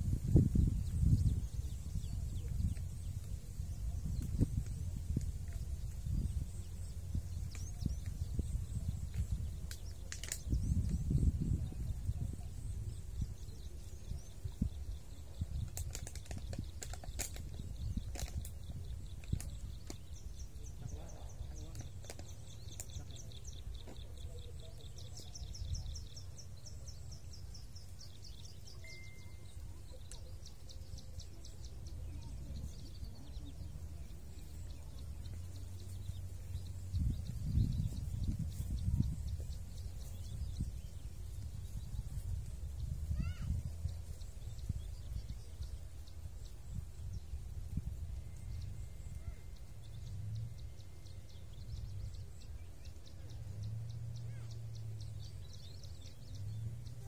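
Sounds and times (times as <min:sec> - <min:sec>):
low steady rumble: 0:00.0 - 0:57.0.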